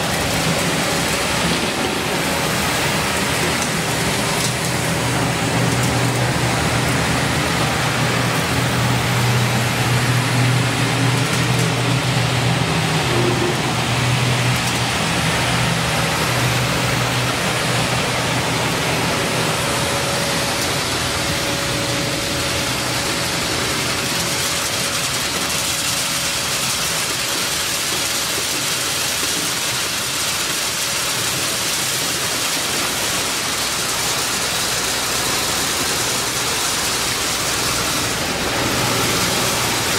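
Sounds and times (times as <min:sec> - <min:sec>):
hiss of corn through mill: 0:00.0 - 0:39.9.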